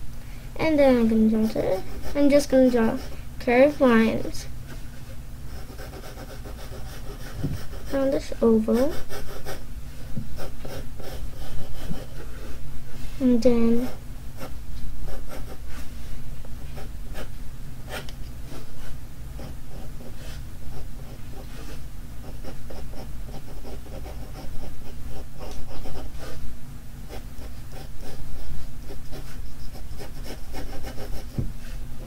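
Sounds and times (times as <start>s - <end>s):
pencil scratching on paper: 0.7s - 4.5s, 5.5s - 9.6s, 10.4s - 12.6s, 13.2s - 15.8s, 16.6s - 17.3s, 17.9s - 26.4s, 27.1s - 31.8s.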